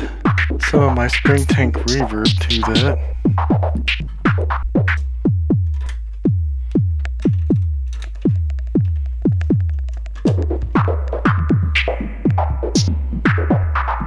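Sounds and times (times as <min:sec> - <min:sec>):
synth kick drum thumps: 0:00.2 - 0:14.0.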